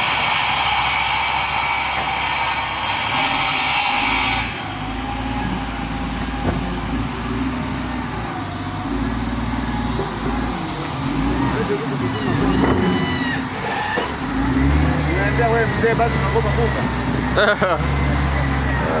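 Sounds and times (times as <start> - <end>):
bulldozer engine running: 0.0 - 19.0.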